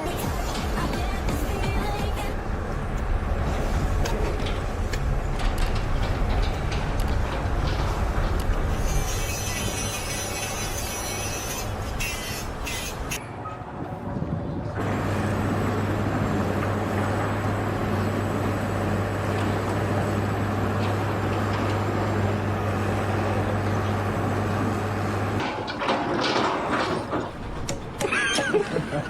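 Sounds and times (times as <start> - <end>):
heavy engine humming: 0.0 - 29.0.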